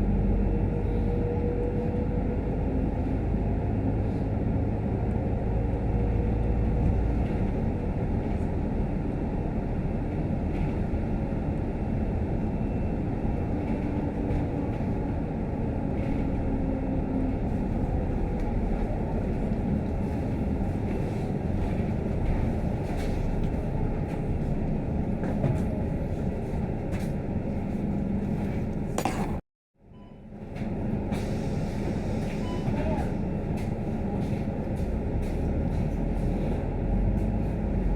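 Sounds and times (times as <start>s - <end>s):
bus engine and road rumble: 0.0s - 37.9s.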